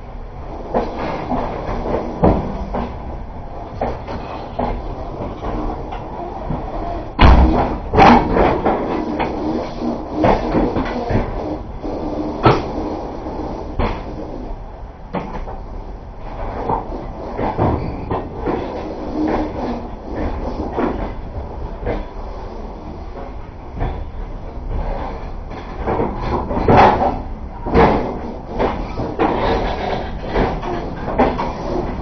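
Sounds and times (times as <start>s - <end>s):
train carriage rumbling on track: 0.0s - 32.0s
train clanks and knocks: 0.0s - 32.0s.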